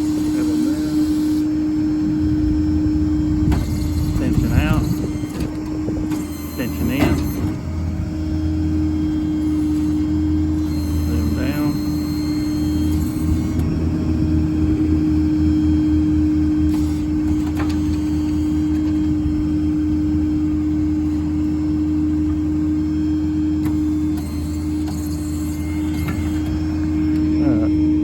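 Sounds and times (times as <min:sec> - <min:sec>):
diesel truck engine running: 0:00.0 - 0:28.0
hydraulic crane pump whine: 0:00.0 - 0:28.0.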